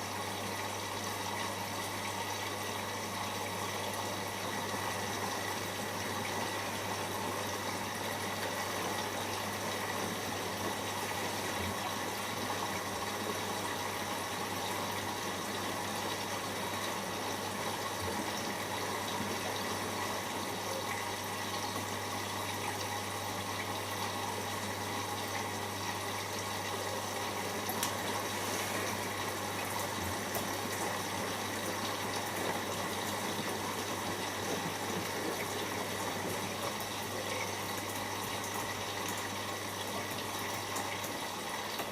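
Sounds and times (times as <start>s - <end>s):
washing machine hum: 0.0s - 41.9s
water gushing into drum: 0.0s - 41.9s.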